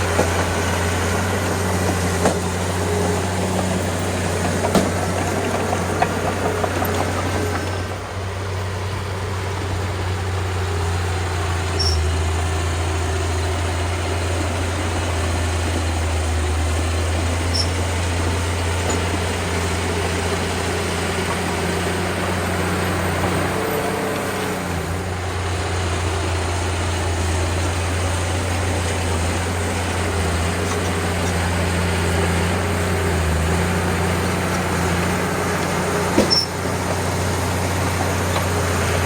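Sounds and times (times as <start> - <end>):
bulldozer diesel engine droning: 0.0 - 39.0.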